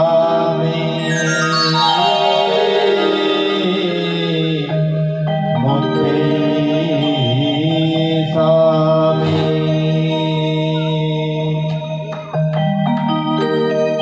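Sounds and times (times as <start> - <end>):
man singing into a microphone: 0.0 - 12.1.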